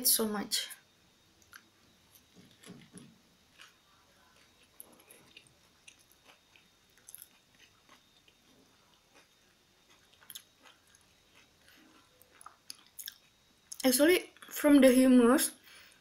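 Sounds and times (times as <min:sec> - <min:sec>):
faint chewing with mouth clicks: 0:01.4 - 0:14.6.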